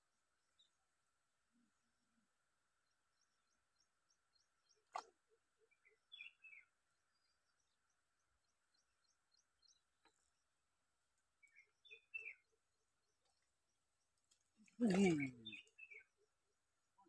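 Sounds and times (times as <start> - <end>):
birds chirping: 2.8 - 16.5.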